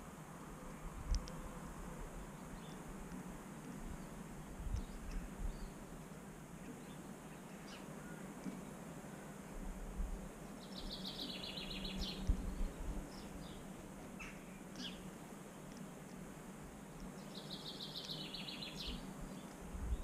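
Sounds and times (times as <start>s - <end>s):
songbirds chirping: 0.0s - 20.0s
steady background hiss: 0.0s - 20.0s.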